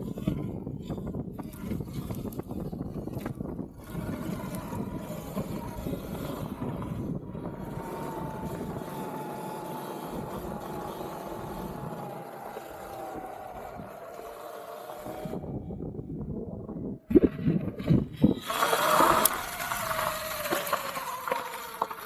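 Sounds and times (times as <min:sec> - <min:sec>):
electric motorbike motor whining: 0:00.0 - 0:16.1, 0:17.2 - 0:22.0.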